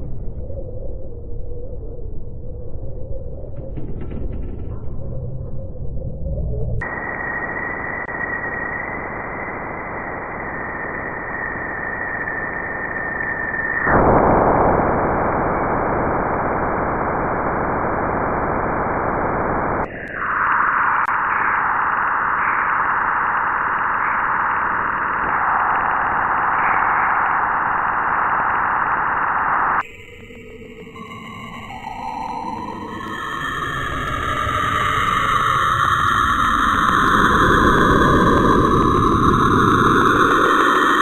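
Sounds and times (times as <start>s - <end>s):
high steady whine: 0.0s - 41.0s.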